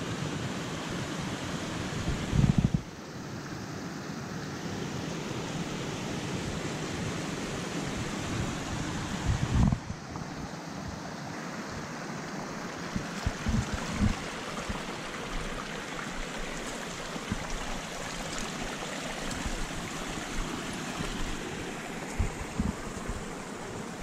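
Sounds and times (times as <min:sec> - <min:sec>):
creek rushing over rocks: 0:00.1 - 0:24.0.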